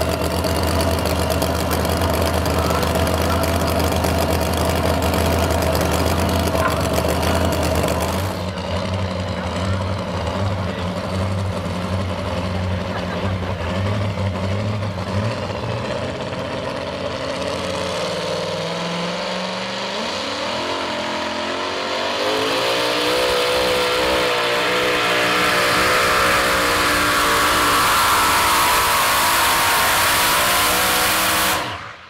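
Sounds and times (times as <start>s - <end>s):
truck engine idling and revving: 0.0s - 32.0s.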